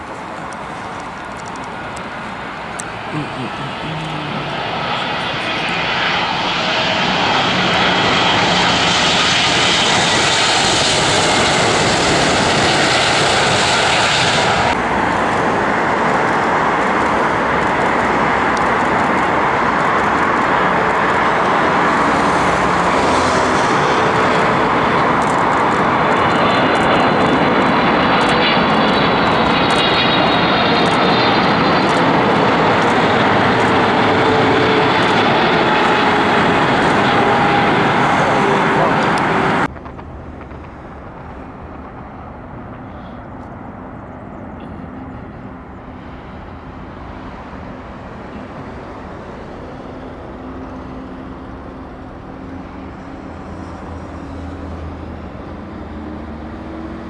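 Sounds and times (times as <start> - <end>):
high engine fan whine: 0.0 - 57.0
jet airliner engines: 0.0 - 57.0.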